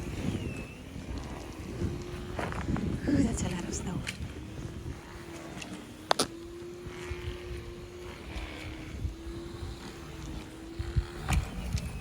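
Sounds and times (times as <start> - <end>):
motor hum: 0.0 - 12.0
wind rumbling on microphone: 0.0 - 12.0.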